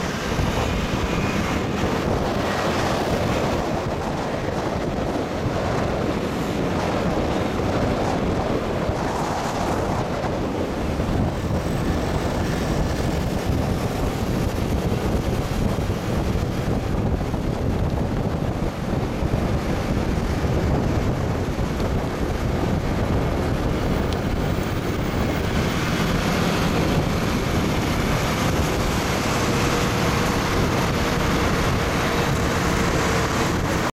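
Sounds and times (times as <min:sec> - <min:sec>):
motorcycle engine: 0:00.0 - 0:33.9
motorcycle road noise: 0:00.0 - 0:34.0
traffic: 0:00.0 - 0:34.0
wind noise on microphone: 0:00.0 - 0:34.0.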